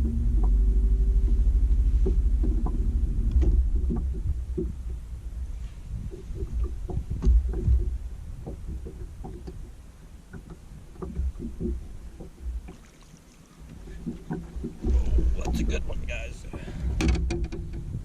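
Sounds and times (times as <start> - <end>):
thumps and knocks in boat: 0.0 - 18.0.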